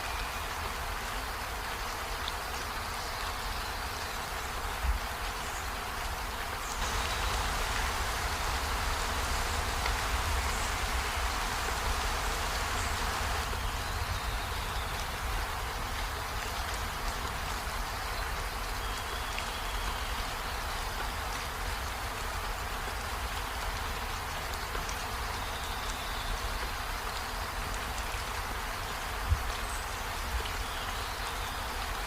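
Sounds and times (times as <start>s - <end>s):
rain on trees and a window: 0.0s - 32.0s.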